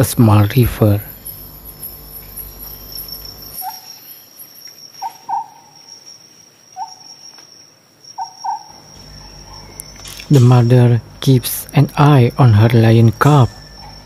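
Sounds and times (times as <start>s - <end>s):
insects chirring: 0.0s - 14.0s
short insect calls: 0.0s - 14.0s.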